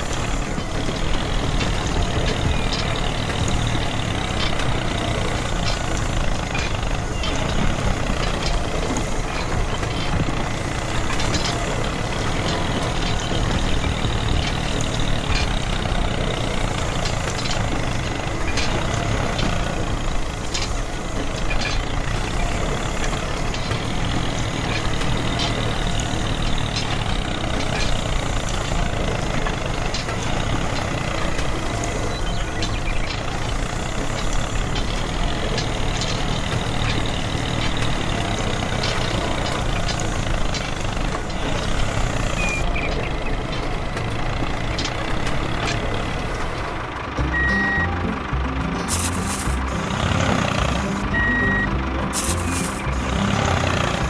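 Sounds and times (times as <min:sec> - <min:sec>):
miniature tractor running: 0:00.0 - 0:54.0.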